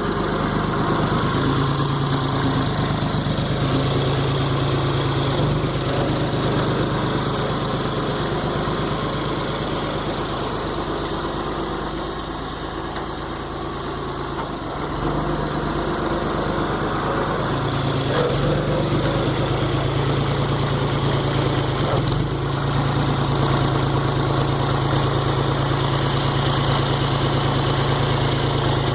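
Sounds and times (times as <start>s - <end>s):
engine running at low revs: 0.0s - 28.9s.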